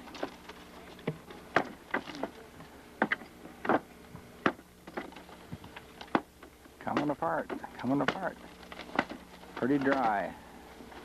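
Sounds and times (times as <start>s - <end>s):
dry wood knocking and cracking: 0.0s - 10.3s.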